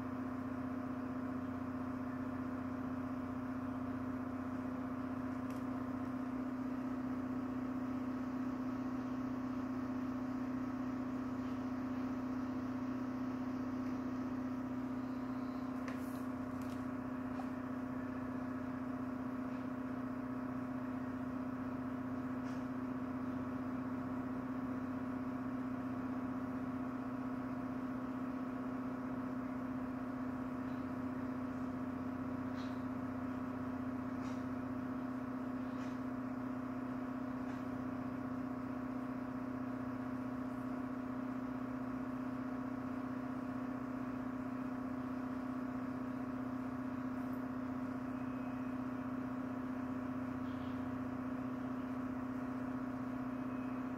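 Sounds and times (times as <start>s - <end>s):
machine humming: 0.0s - 53.9s.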